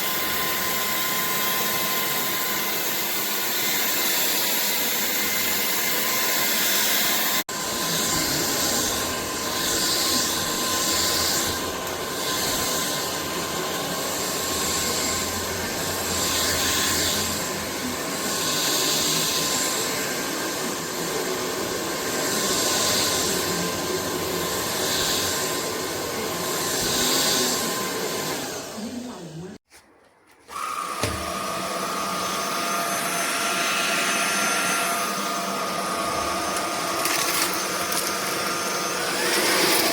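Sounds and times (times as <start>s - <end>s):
stick vacuum running: 0.0s - 29.6s, 30.4s - 39.9s.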